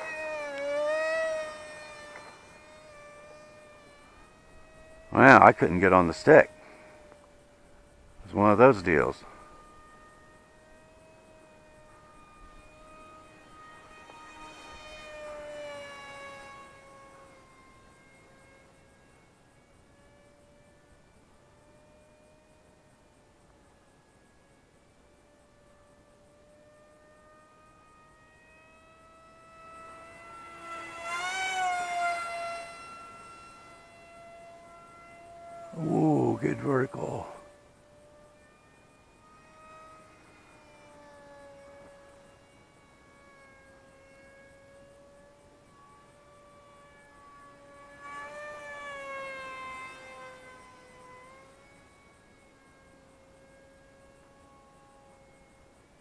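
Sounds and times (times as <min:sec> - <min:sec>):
model plane propeller whining: 0:00.0 - 0:56.0.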